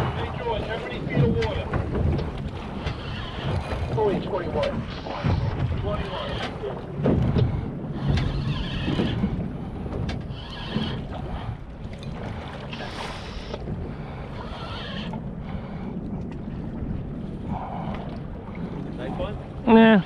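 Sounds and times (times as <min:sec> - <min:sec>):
boat engine rumble: 0:00.0 - 0:20.0
water splashing against hull: 0:00.0 - 0:20.0
wind on microphone: 0:00.0 - 0:20.0.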